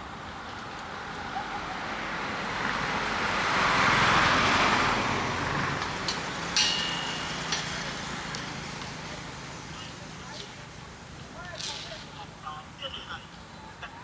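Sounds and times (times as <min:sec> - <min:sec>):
motor vehicle passing by: 0:00.1 - 0:12.4.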